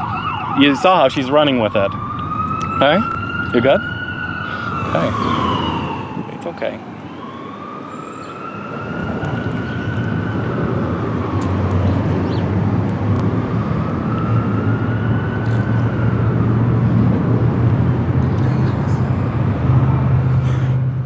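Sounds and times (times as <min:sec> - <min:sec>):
emergency siren wailing: 0:00.0 - 0:21.0
vehicle engine rumble: 0:00.0 - 0:21.0.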